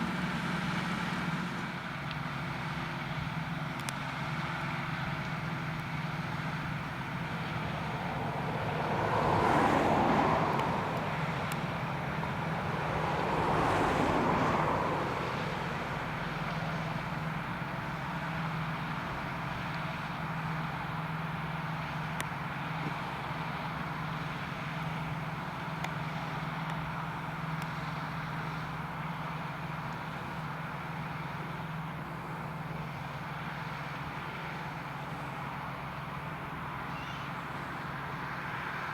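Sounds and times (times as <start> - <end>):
farm tractors running: 0.0 - 38.9.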